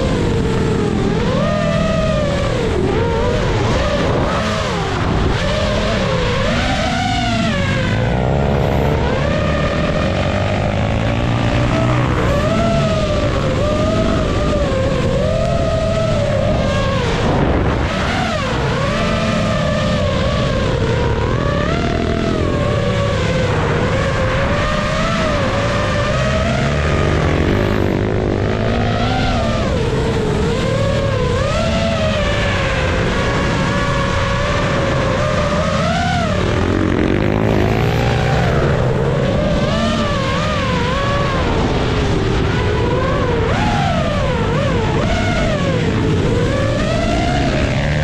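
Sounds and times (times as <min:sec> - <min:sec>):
drone motors and propellers whining: 0:00.0 - 0:48.0.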